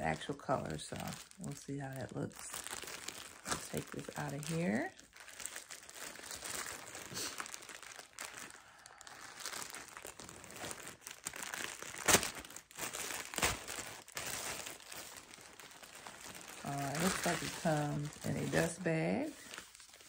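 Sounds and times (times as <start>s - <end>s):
paper wrapping crinkling: 0.0s - 20.0s.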